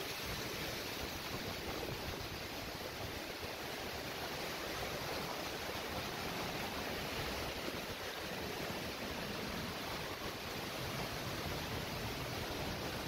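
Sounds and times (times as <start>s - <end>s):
water splashing over rocks: 0.0s - 13.0s
waterfall rushing: 0.0s - 13.0s.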